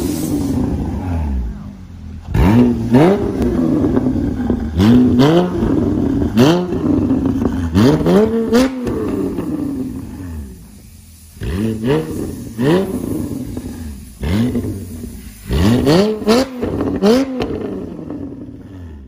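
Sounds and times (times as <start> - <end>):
car engine revving: 0.0 - 19.0
exhaust cracks: 0.0 - 19.0.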